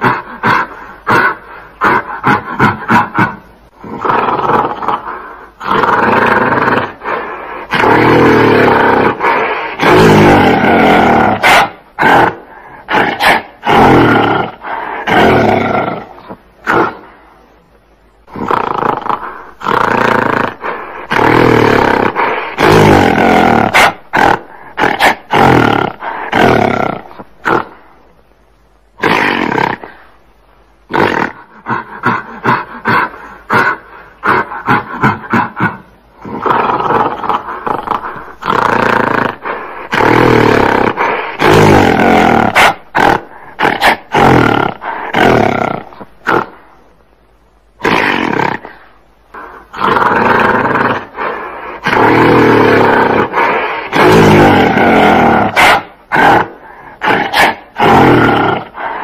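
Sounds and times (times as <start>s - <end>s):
gorilla roaring and growling: 0.0s - 17.1s, 18.3s - 27.8s, 30.9s - 46.6s, 47.8s - 59.0s.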